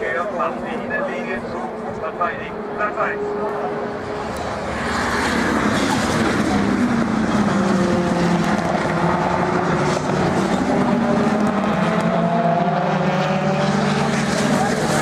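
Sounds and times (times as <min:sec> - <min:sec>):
race car engines passing: 0:00.0 - 0:15.0.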